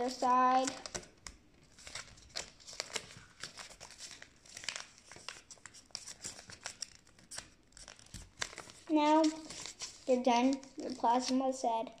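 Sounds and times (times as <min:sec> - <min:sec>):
paper folding and crinkling: 0:00.0 - 0:11.7.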